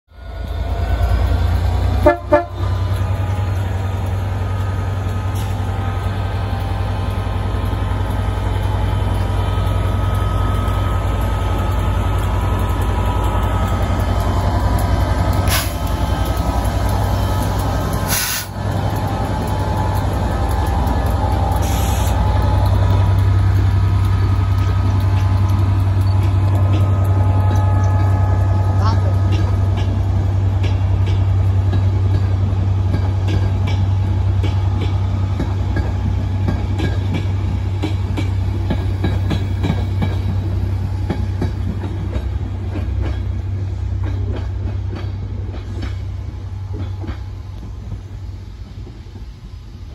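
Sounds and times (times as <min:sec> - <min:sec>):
diesel locomotive engine drone: 0:00.1 - 0:49.9.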